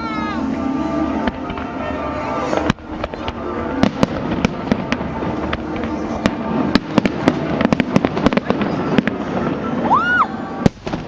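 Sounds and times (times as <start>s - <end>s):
fireworks bangs: 0.0s - 11.0s
music: 0.0s - 11.0s.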